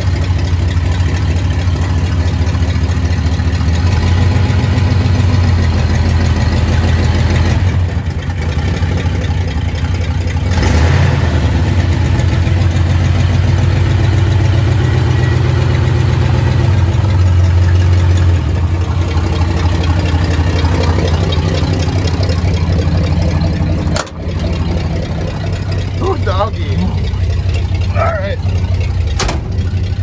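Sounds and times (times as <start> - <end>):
engine running with low hum: 0.0 - 30.0.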